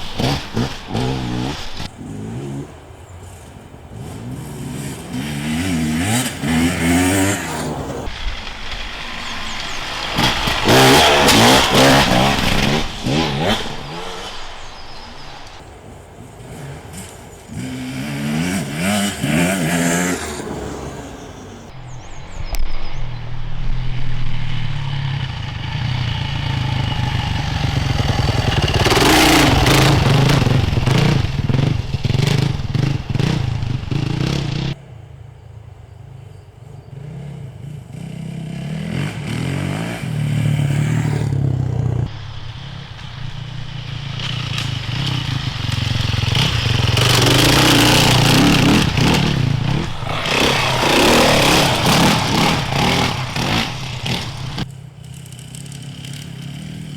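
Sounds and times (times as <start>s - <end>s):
motorcycles revving passing by: 0.0s - 21.7s, 24.4s - 56.9s.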